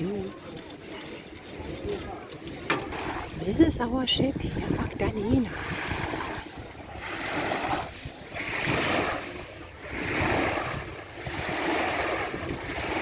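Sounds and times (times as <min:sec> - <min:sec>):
small waves washing on beach: 0:00.0 - 0:13.0.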